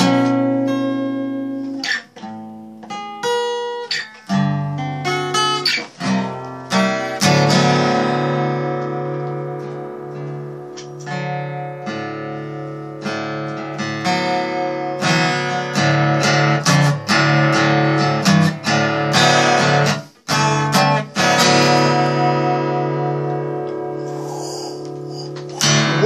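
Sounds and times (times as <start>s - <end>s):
guitar strumming: 0.0s - 26.0s.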